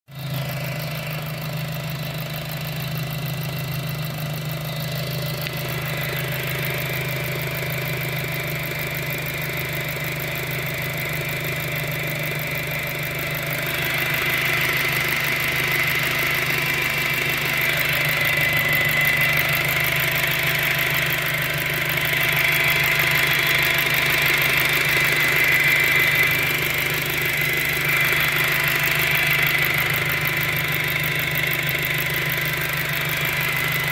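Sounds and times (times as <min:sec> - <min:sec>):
car engine high-pitched whine: 0:00.1 - 0:33.9.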